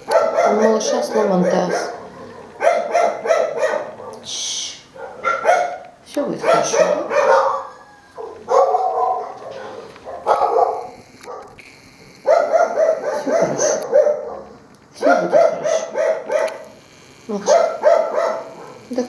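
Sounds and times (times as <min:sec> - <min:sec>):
dog barking: 0:00.0 - 0:04.3, 0:04.9 - 0:11.6, 0:12.2 - 0:16.8, 0:17.4 - 0:18.9.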